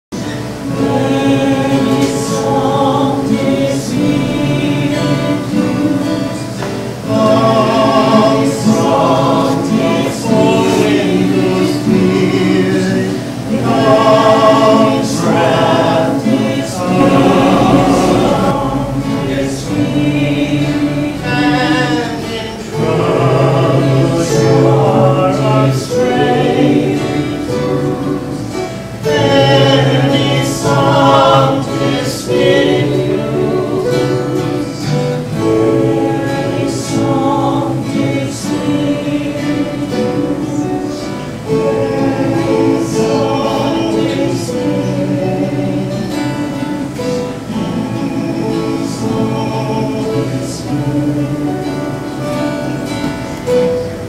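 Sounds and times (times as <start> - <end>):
group of voices singing chant: 0.5 - 52.3.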